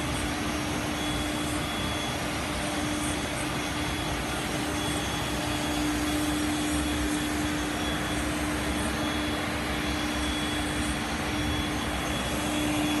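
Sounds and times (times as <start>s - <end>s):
faint high whine: 0.0s - 13.0s
machine running with rushing hum: 0.0s - 13.0s.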